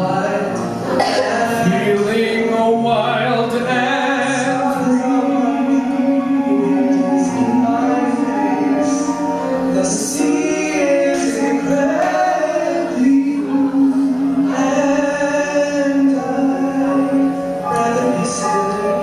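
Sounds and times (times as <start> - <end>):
instrumental accompaniment: 0.0 - 19.0
person singing long notes: 0.0 - 19.0.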